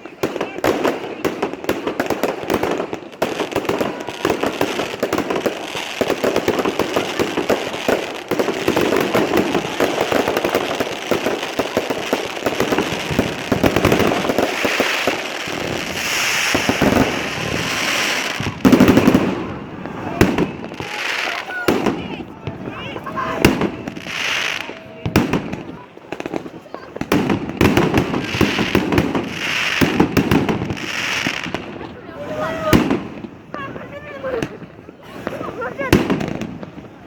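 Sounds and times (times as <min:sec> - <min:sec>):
fireworks bangs and pops: 0:00.0 - 0:37.0
fireworks crackling: 0:00.0 - 0:37.0.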